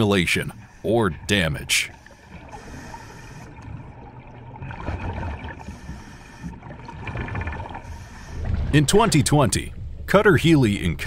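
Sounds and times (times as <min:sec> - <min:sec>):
water bubbling underwater: 0:00.0 - 0:10.5.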